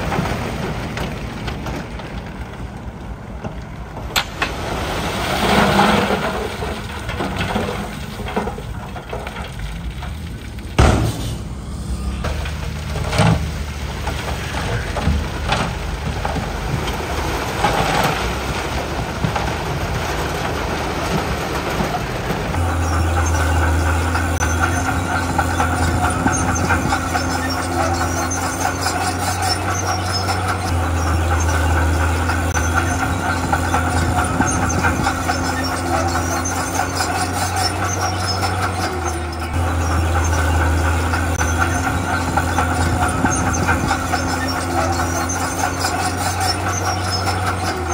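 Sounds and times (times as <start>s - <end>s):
bulldozer engine drone: 0.0s - 47.9s
tracks squealing: 5.2s - 47.9s.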